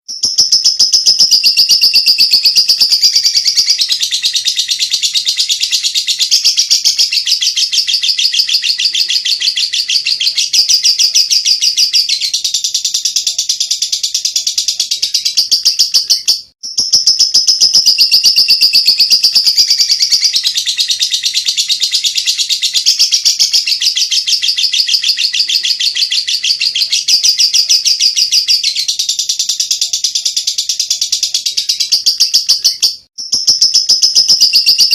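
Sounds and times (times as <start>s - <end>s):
lovebird chattering trill: 0.1s - 34.9s.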